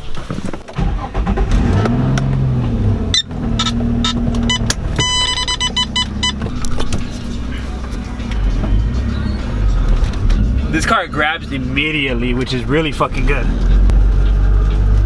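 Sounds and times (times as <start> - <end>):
car engine running: 0.7 - 15.0
engine revving: 0.8 - 15.0.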